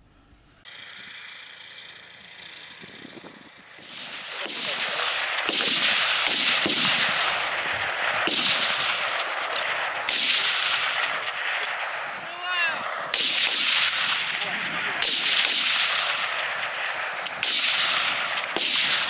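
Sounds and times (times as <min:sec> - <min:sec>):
rifles firing rapid shots: 0:03.6 - 0:19.0.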